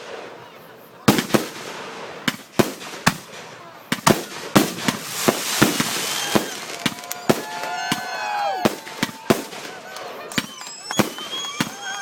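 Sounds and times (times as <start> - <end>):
fireworks bangs: 1.0 - 12.0
fireworks crackling: 1.0 - 12.0.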